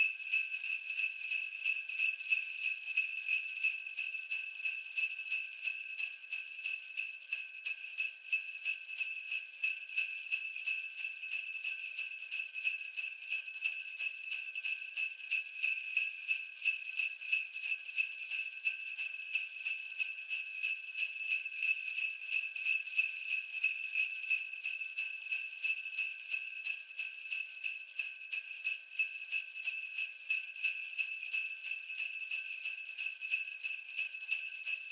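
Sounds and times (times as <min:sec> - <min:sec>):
sleigh bells jingling: 0:00.0 - 0:34.9.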